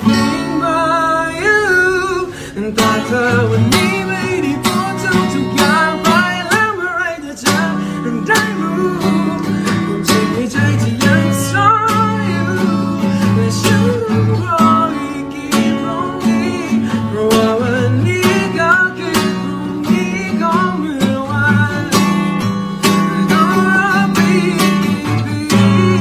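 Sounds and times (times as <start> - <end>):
acoustic guitar strumming: 0.0 - 26.0
man singing: 0.0 - 26.0.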